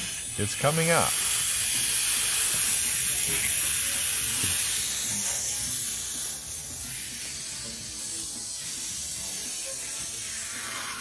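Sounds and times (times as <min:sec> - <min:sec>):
helium hissing from tank nozzle: 0:00.0 - 0:11.0.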